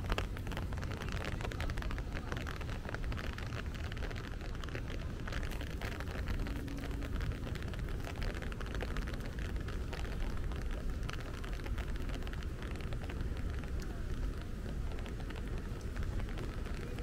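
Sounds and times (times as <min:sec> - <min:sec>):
low rain rumble: 0:00.0 - 0:17.0
raindrops ticking: 0:00.0 - 0:17.0.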